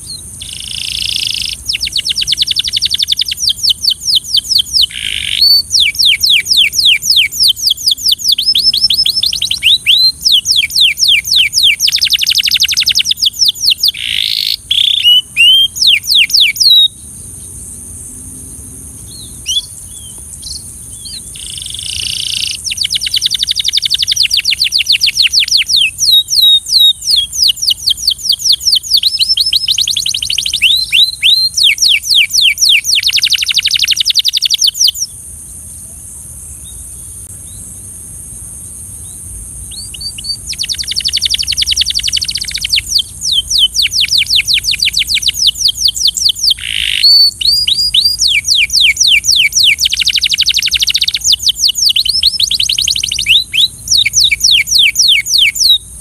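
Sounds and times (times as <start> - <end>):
canary singing trills: 0.0 - 35.2, 39.0 - 56.0
steady high hiss: 0.0 - 56.0.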